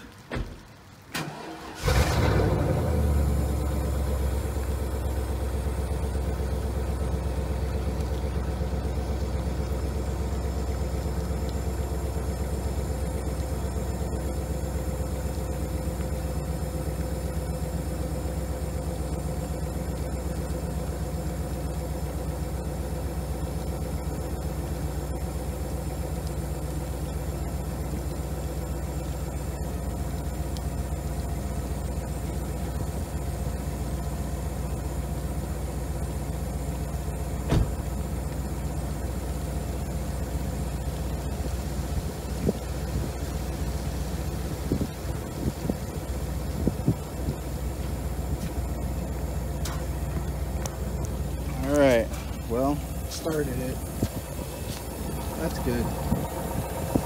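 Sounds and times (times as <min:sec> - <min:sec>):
car engine cranking and idling: 0:00.0 - 0:57.0.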